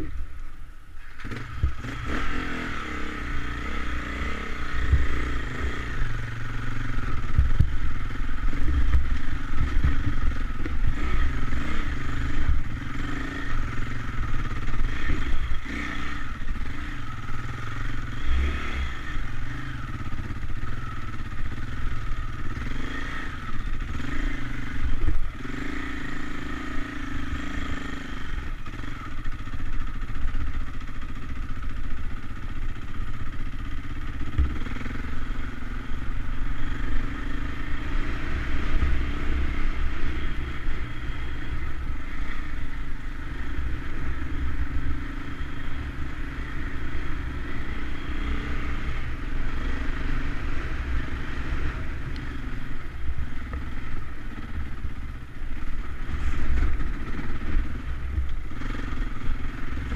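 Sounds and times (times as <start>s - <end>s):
motorcycle engine revving: 1.0s - 59.9s.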